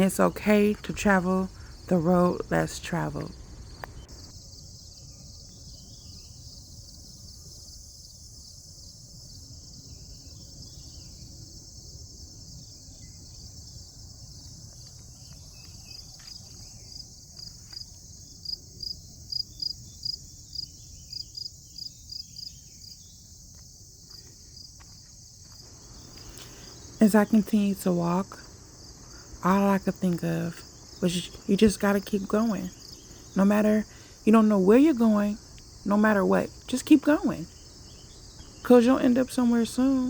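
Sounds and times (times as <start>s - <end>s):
close insect chirping: 0.0s - 40.0s
insect chorus: 0.0s - 40.0s.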